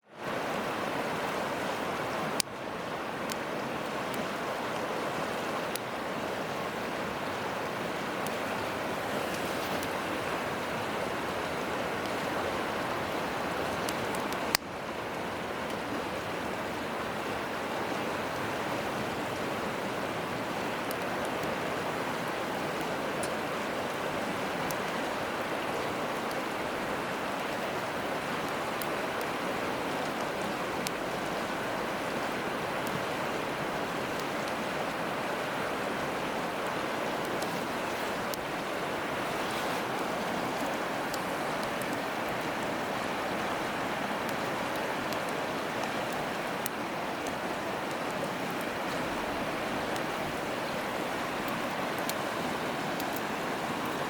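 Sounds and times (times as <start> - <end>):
river rushing: 0.1 - 54.0
campfire crackling: 0.2 - 54.0.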